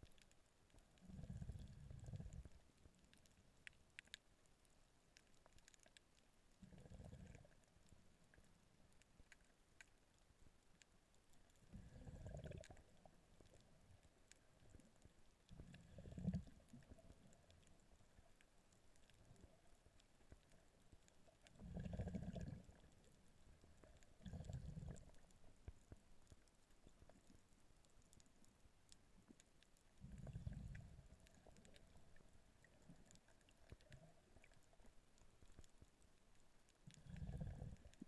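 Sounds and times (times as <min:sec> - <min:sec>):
faint ticks: 0:00.0 - 0:38.0.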